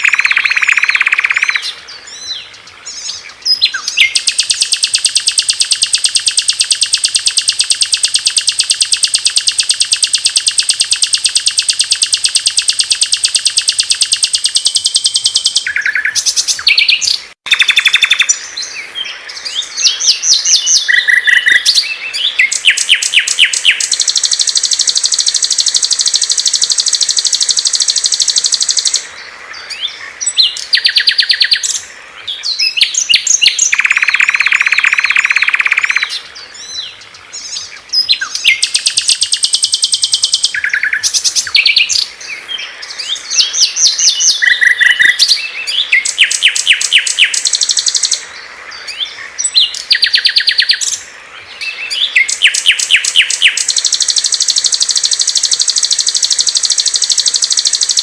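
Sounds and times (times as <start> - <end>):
low dense bird trill: 0.0 - 58.0
songbirds trilling and chirping: 0.0 - 58.0.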